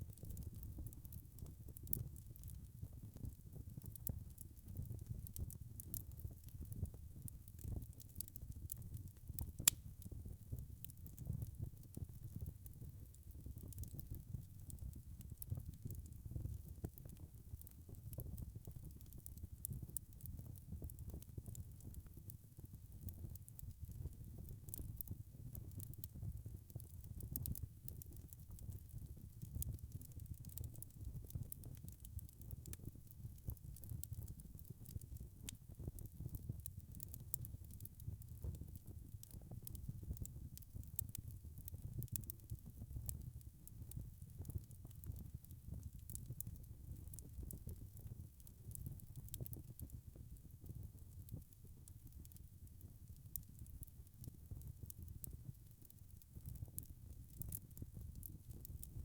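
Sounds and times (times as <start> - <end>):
low rumble of flames: 0.0 - 59.0
logs crackling and popping: 0.1 - 10.2, 13.4 - 22.2, 23.0 - 41.2, 41.8 - 50.0, 54.8 - 59.0.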